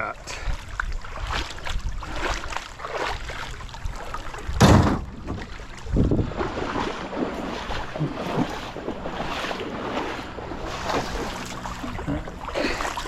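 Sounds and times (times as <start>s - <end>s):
river water splashing: 0.0s - 13.0s.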